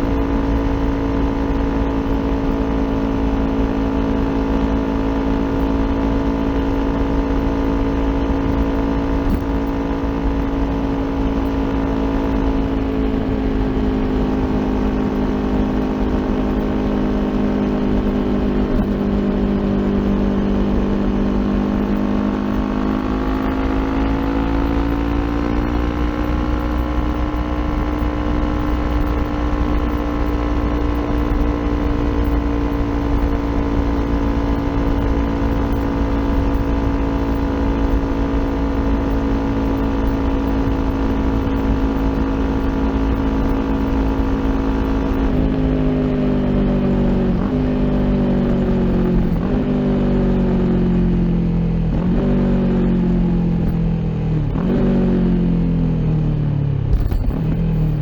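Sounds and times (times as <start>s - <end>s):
low steady rumble: 0.0s - 58.0s
motorcycle engine running: 0.0s - 58.0s.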